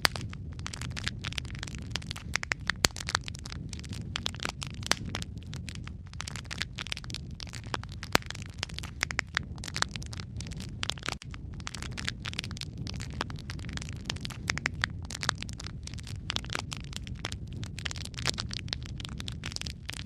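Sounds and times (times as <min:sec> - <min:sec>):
low rumble: 0:00.0 - 0:20.0
wood fire crackling: 0:00.0 - 0:20.0.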